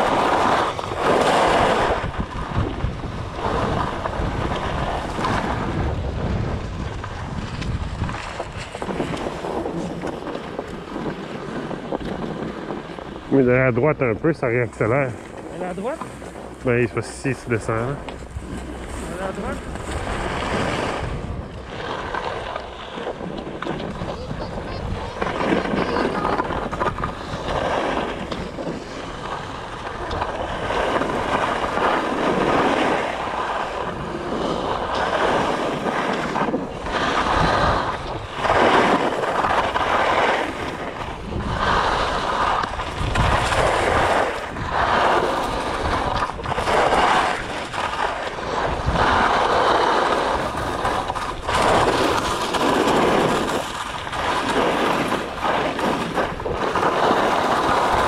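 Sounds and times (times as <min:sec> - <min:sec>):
skis scraping over snow: 0:00.0 - 0:58.0
wind on microphone: 0:00.0 - 0:58.0.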